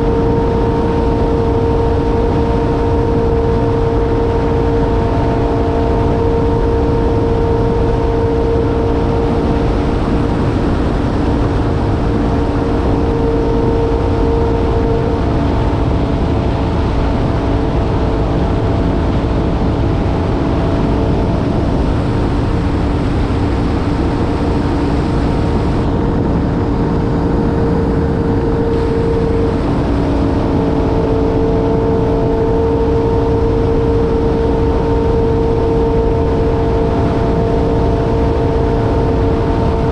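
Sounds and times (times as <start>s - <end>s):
jet ski engine whine: 0.0s - 39.9s
rushing water noise: 0.0s - 39.9s.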